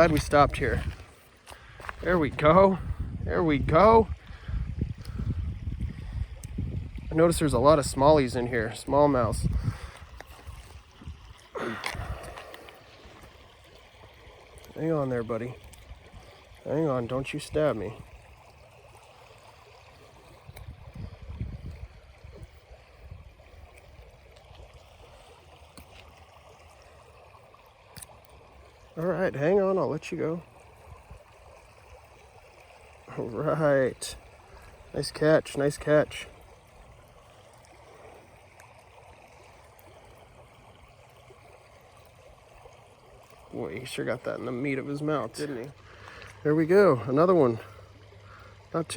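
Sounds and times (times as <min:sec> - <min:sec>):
creek water running: 0:00.0 - 0:48.9.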